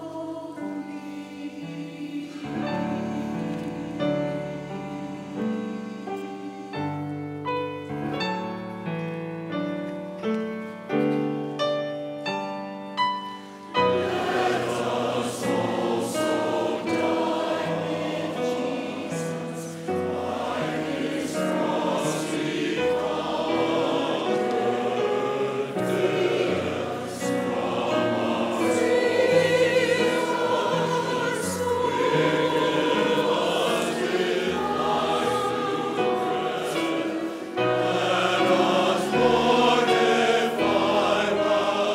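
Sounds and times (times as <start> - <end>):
church choir singing: 0.0 - 41.9
grand piano accompaniment: 0.0 - 41.9.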